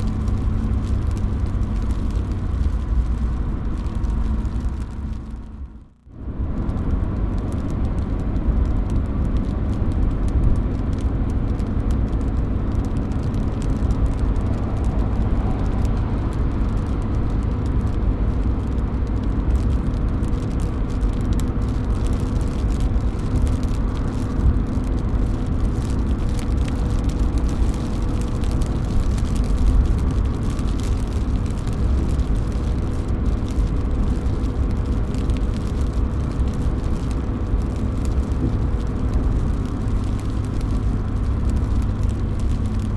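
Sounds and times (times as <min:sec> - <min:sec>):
low rumble: 0:00.0 - 0:42.9
rain dripping off roof edge: 0:00.0 - 0:42.9.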